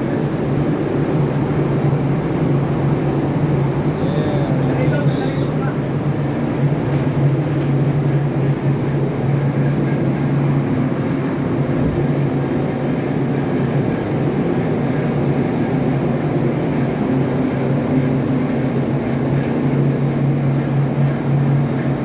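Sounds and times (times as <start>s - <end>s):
engine room machinery drone: 0.0s - 22.0s.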